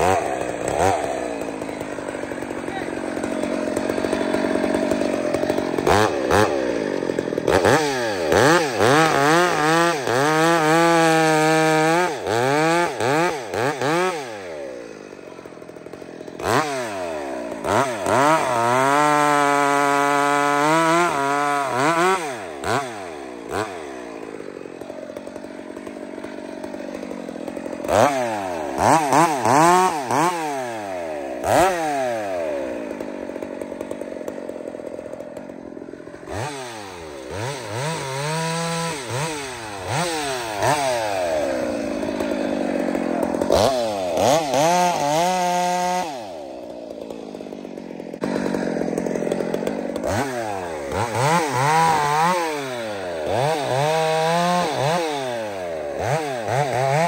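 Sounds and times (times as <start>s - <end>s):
chainsaw revving and cutting log: 0.0s - 57.0s.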